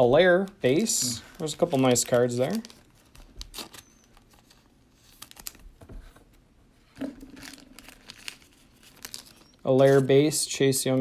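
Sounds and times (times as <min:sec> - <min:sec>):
trading cards and wrapping rustling: 0:00.0 - 0:06.2, 0:07.0 - 0:10.5.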